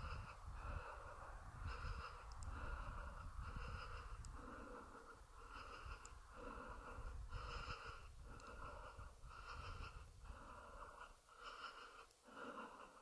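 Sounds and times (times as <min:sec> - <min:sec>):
person breathing quickly: 0:00.0 - 0:13.0.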